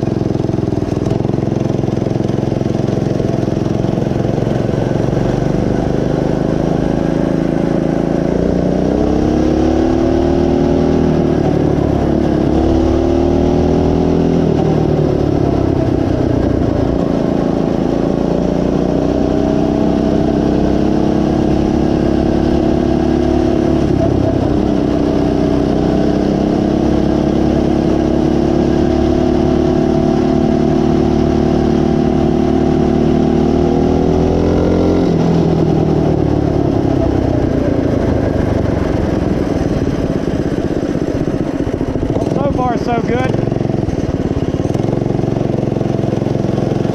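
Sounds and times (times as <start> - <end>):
minibike engine revving: 0.0 - 46.9.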